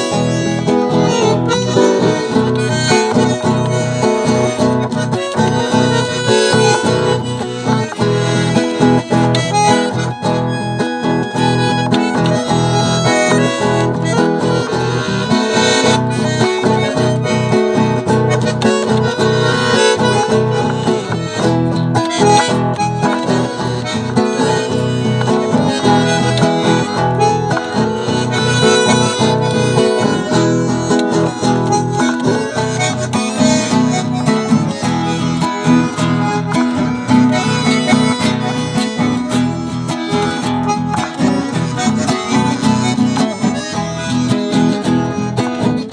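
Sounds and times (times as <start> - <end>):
acoustic guitar strumming: 0.0 - 45.9
reed instrument melody: 0.0 - 45.9.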